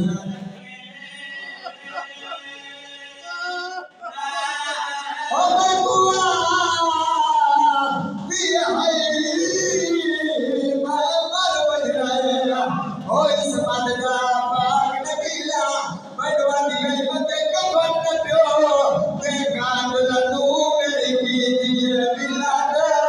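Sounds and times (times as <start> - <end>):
man chanting into a microphone: 0.0 - 23.0.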